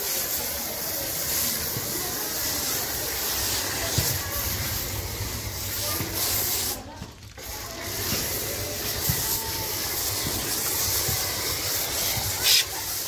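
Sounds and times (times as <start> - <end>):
pressure washer spraying: 0.0 - 13.0.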